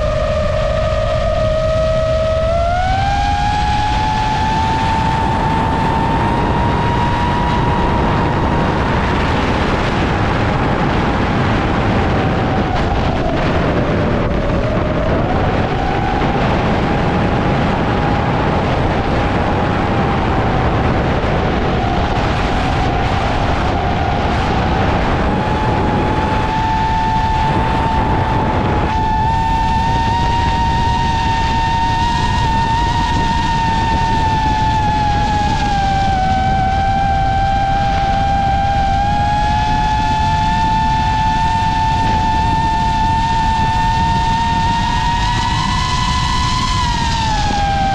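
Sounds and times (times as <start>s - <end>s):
drone propellers whining: 0.0s - 47.9s
steady rushing noise: 0.0s - 47.9s.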